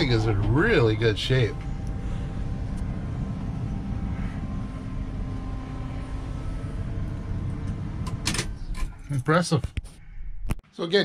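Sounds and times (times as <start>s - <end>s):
engine idling heard from cab: 0.0s - 10.1s.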